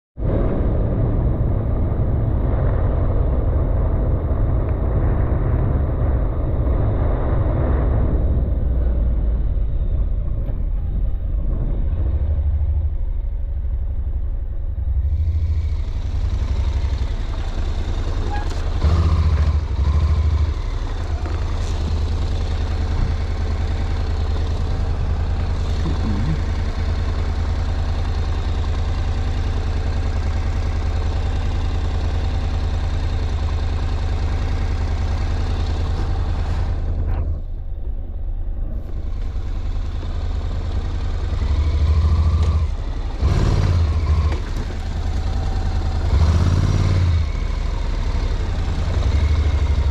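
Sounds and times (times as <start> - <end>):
motorcycle engine rumbling: 0.2 - 49.9.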